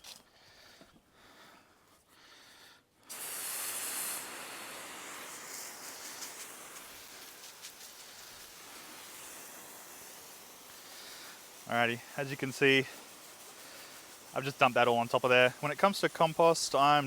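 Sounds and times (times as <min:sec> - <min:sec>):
water spraying hiss: 0:03.1 - 0:17.0.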